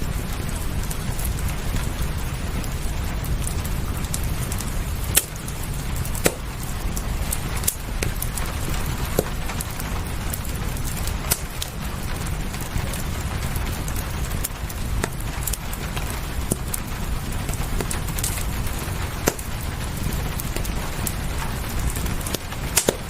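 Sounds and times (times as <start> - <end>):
fire popping: 0.0 - 23.0
fireplace crackling: 0.0 - 23.0
steady rain: 0.0 - 23.0.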